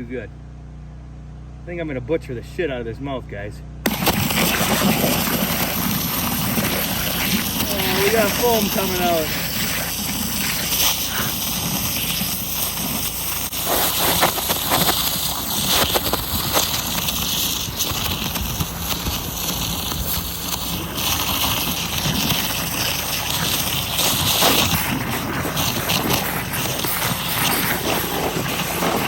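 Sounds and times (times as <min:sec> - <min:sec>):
high-pressure water jet hissing: 0:03.8 - 0:29.0
pressure washer engine running: 0:03.8 - 0:29.0.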